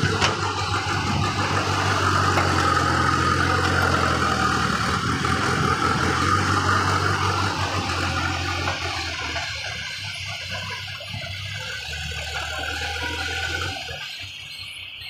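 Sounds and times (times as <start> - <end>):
diesel engine under load: 0.0 - 15.0
high whine: 0.0 - 15.0.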